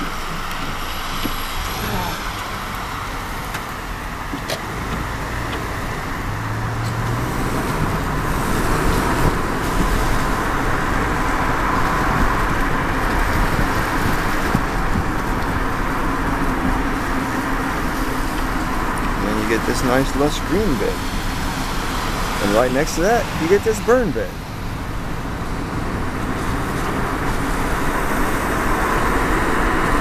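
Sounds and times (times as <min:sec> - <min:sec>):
car tyre and engine rumble: 0:00.0 - 0:30.0.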